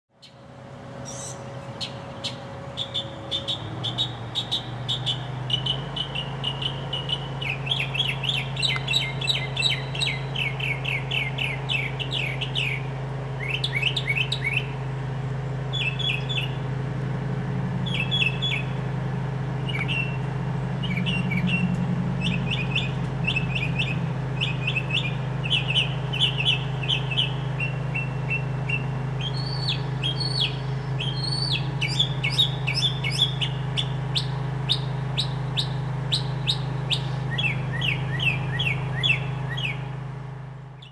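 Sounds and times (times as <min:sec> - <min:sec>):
mockingbird singing: 0:00.2 - 0:14.8, 0:15.7 - 0:16.6, 0:17.8 - 0:18.9, 0:19.6 - 0:39.9
steady low hum: 0:00.3 - 0:40.9.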